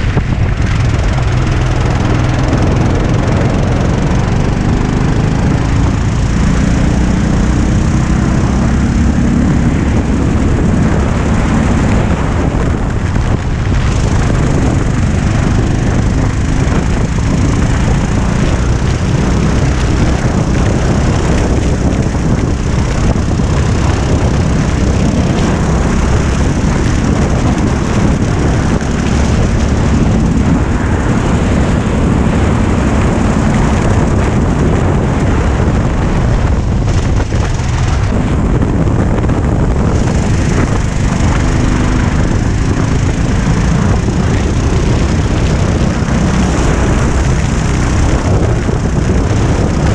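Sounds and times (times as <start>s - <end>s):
go-kart engine racing: 0.0s - 49.9s
wind buffeting microphone: 0.0s - 49.9s.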